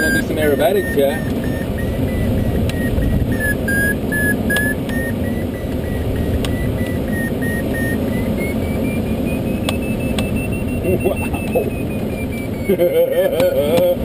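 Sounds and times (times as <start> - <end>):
variometer beeping: 0.0 - 14.0.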